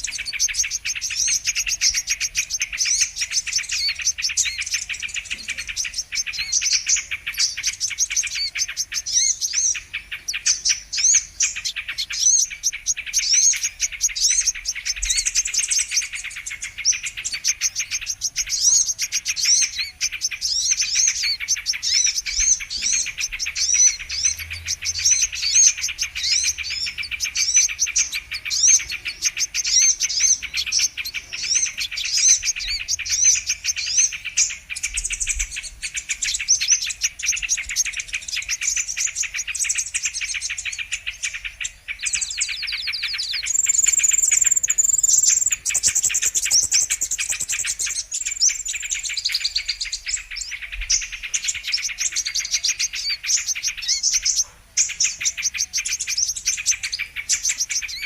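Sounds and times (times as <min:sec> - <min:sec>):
sunbird twittering chirps: 0:00.0 - 0:58.0.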